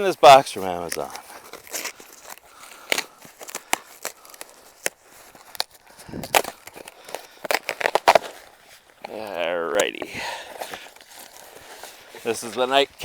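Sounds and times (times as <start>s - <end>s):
cardboard box being opened: 0.8s - 12.8s.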